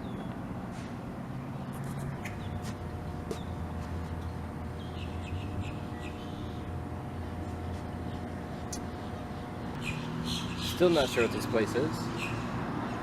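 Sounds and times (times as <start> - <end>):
birds chirping: 0.0 - 0.4, 1.5 - 13.0
steady low rumble: 0.0 - 10.6.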